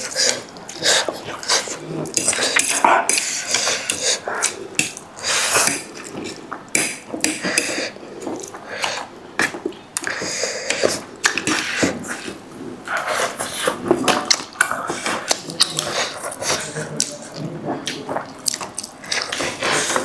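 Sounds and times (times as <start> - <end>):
slurping and chewing: 0.0 - 20.0.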